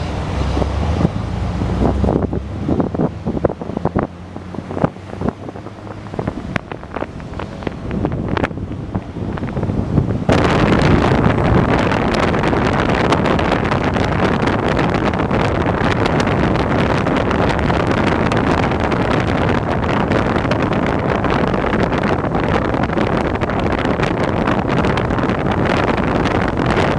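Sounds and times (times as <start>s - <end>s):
road and engine noise: 0.0s - 26.9s
wind buffeting microphone: 0.0s - 26.9s.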